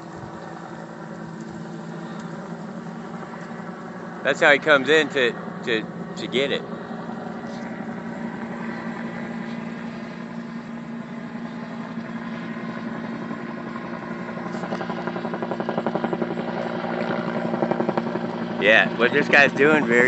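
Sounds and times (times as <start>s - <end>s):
helicopter hovering: 0.0s - 20.0s.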